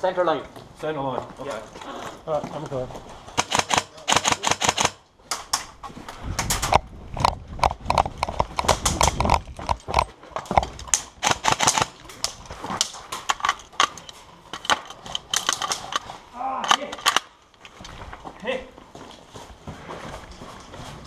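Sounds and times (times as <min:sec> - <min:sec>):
footsteps on rough ground: 0:00.3 - 0:03.7, 0:05.6 - 0:16.4, 0:17.3 - 0:21.0.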